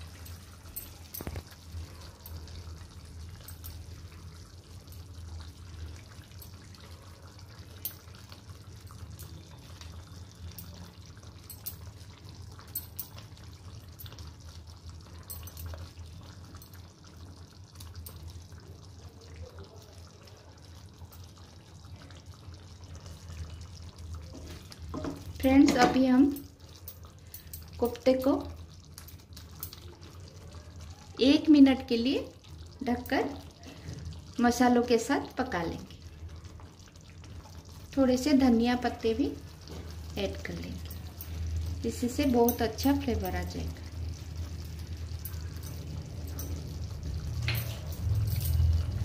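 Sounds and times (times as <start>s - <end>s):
curry bubbling in a pan: 0.0s - 49.0s.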